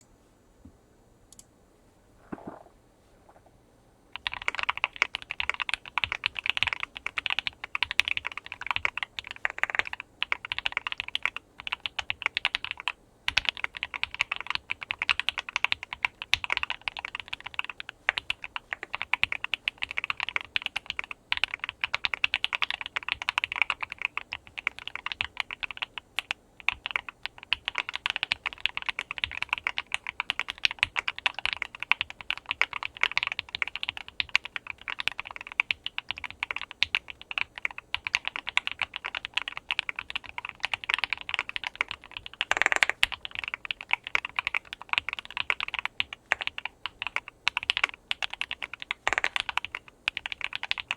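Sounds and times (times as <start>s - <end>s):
mechanical keyboard typing: 4.2s - 50.9s.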